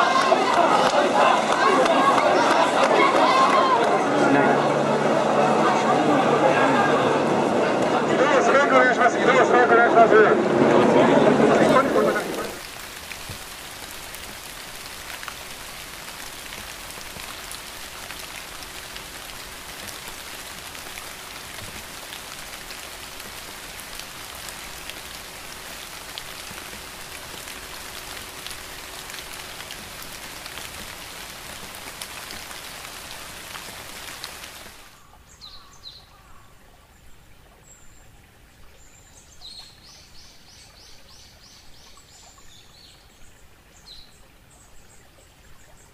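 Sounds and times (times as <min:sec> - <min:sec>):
steady rain hiss: 0:00.0 - 0:37.8.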